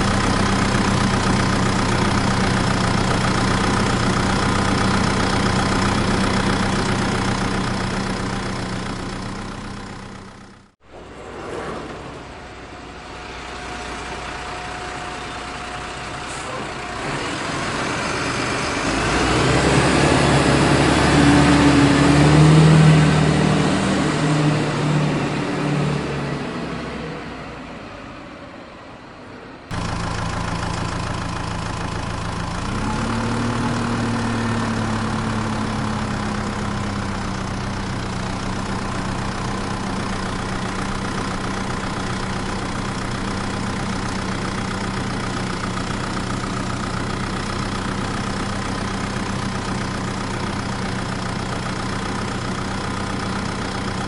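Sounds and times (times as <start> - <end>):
truck engine running: 0.0 - 28.5, 29.6 - 54.0.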